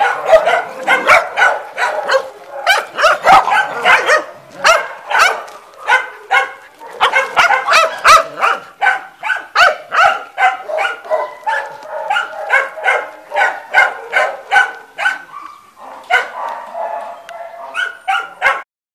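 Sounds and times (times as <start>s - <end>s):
dog barking high-pitched: 0.0s - 18.7s.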